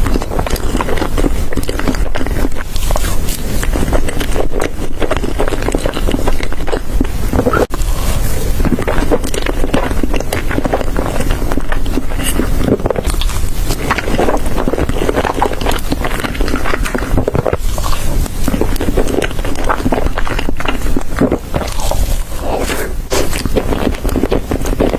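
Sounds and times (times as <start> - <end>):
chewing and crunching food: 0.0 - 24.9
wet mouth sounds: 0.0 - 24.9.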